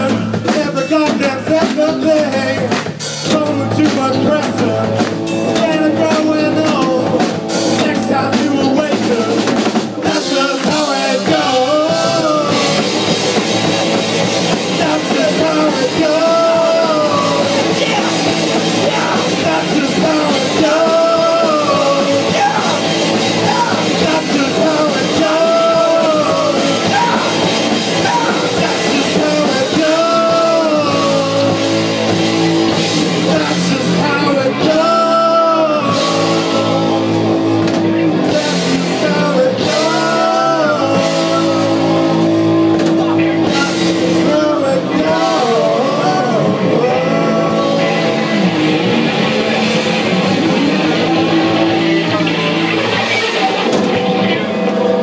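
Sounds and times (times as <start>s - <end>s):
man singing into a microphone: 0.0s - 13.2s, 14.7s - 48.6s
distorted electric guitars: 0.0s - 55.0s
drum kit: 0.0s - 55.0s
electric bass: 0.0s - 55.0s.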